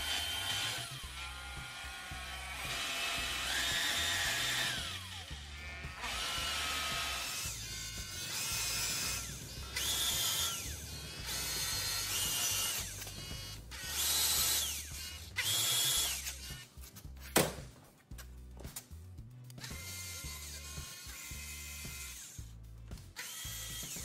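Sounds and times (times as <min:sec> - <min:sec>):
cordless drill whining: 0:00.0 - 0:16.6, 0:19.6 - 0:22.4, 0:23.2 - 0:24.0.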